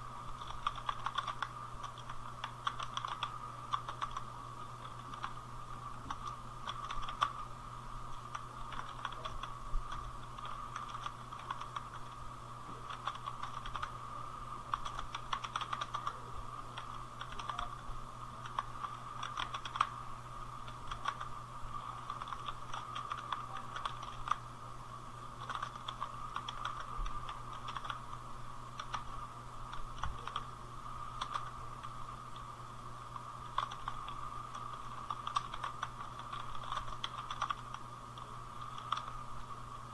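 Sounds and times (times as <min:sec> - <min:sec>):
steady low hum: 0:00.0 - 0:39.9
keyboard typing: 0:00.3 - 0:05.4, 0:06.0 - 0:07.5, 0:08.1 - 0:14.0, 0:14.6 - 0:24.4, 0:25.4 - 0:28.2, 0:28.8 - 0:30.5, 0:31.1 - 0:31.5, 0:33.4 - 0:39.2.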